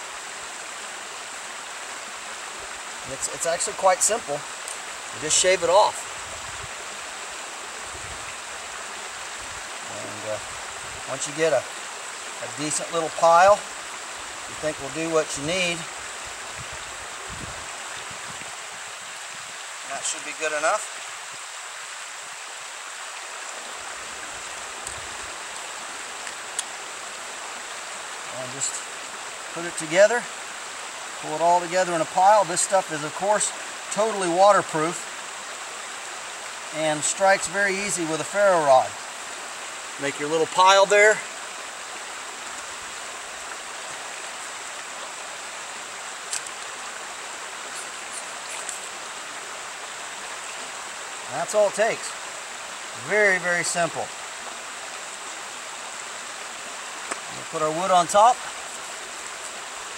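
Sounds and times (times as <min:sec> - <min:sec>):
creek water running: 0:00.0 - 0:59.9.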